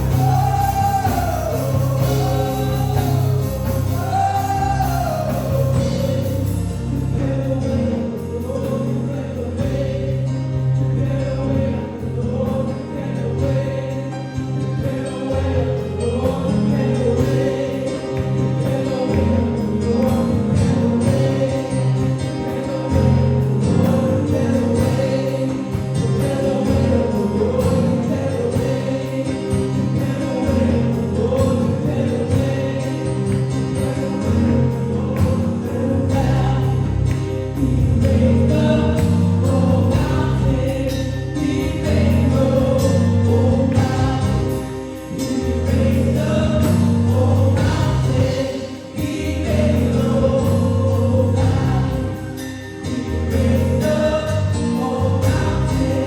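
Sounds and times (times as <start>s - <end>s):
choir singing gospel with band: 0.0s - 56.0s
held bass notes: 0.0s - 56.0s.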